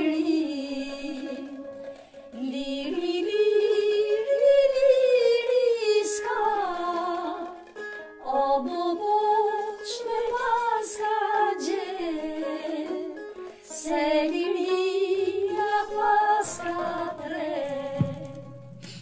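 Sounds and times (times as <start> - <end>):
women singing together: 0.0 - 1.6, 2.4 - 7.6, 8.2 - 13.2, 13.8 - 18.5
plucked acoustic guitar: 0.0 - 19.0.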